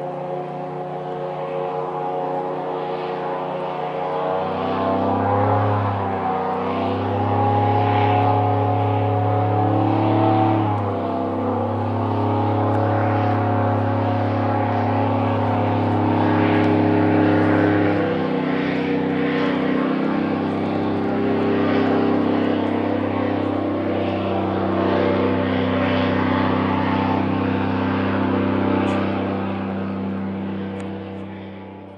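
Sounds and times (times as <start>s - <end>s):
airboat engine and propeller droning: 0.0s - 31.9s.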